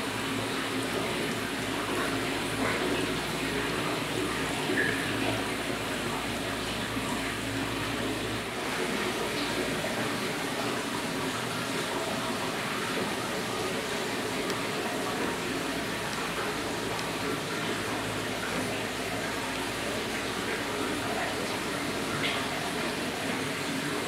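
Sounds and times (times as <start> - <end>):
water splashing into tanks: 0.0 - 24.0.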